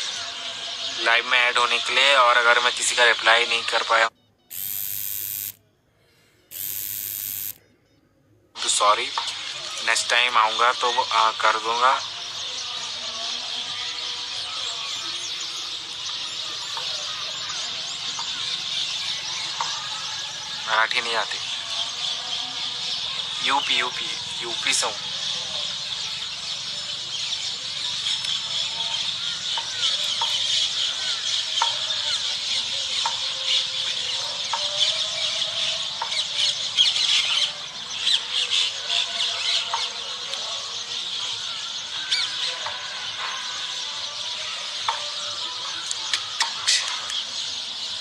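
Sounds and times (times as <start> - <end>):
birds chirping: 0.0 - 5.6, 6.4 - 48.0.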